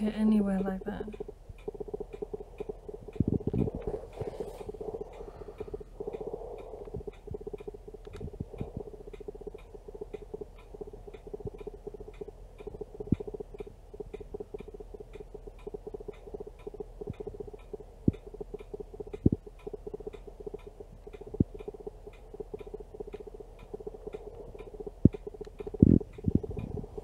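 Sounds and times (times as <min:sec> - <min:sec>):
fast ticking: 0:00.0 - 0:27.0.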